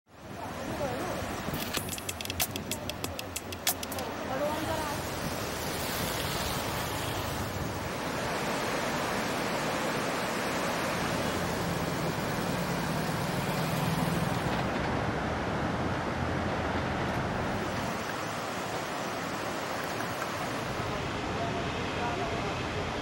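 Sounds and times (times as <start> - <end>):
river floodwater rushing: 0.1 - 23.0.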